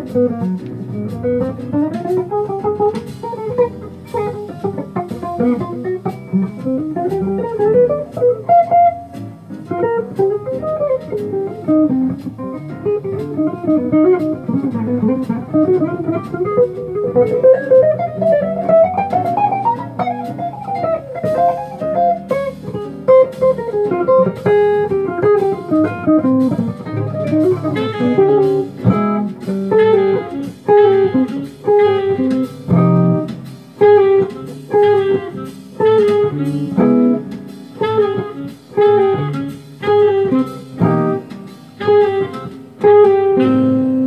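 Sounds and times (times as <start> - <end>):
electric guitar playing jazz: 0.0 - 44.0.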